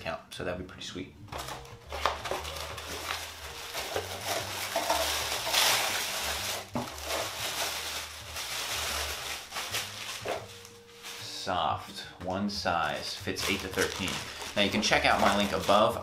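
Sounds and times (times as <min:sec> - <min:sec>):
tissue paper rustling: 0:01.4 - 0:11.9, 0:12.7 - 0:16.0.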